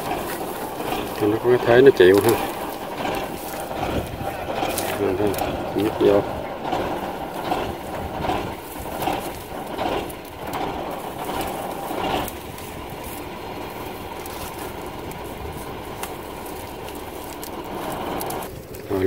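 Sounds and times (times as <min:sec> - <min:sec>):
loud irregular sounds: 0:00.0 - 0:19.0
tractor engine running: 0:00.0 - 0:19.0.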